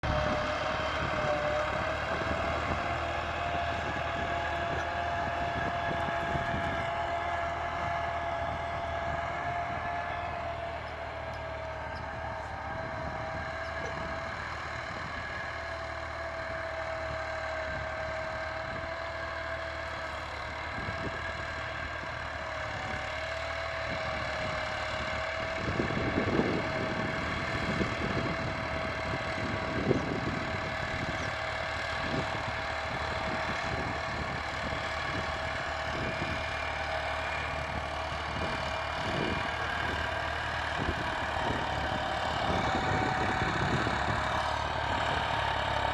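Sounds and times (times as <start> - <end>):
tractor engine idling: 0.0 - 45.9.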